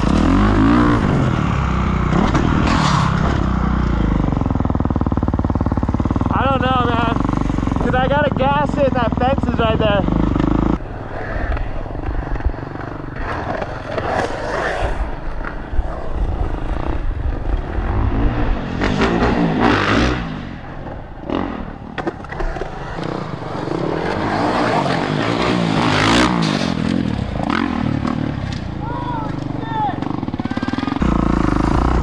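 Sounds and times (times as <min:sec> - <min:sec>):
skateboard wheels rolling on concrete: 0:00.0 - 0:32.0.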